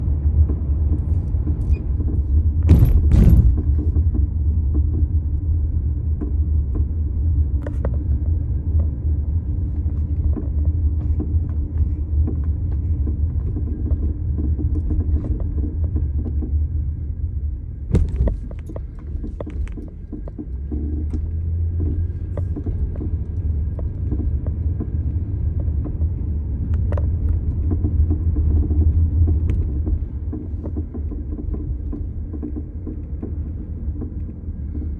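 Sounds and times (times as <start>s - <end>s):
car engine low rumble: 0.0s - 34.9s
suspension clunks and knocks: 0.3s - 7.0s, 9.8s - 34.9s.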